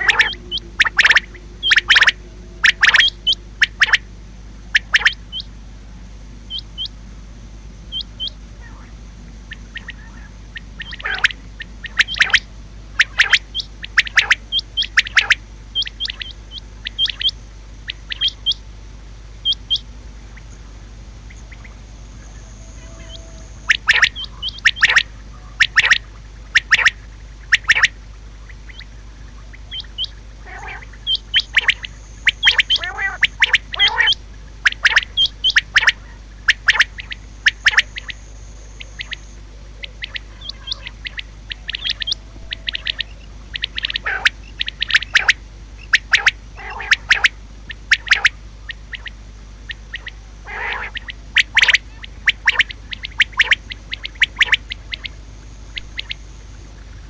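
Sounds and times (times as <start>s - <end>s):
quail calling: 0.0s - 5.6s, 6.4s - 7.0s, 7.9s - 18.7s, 19.4s - 57.0s
steady low hum: 0.0s - 57.0s.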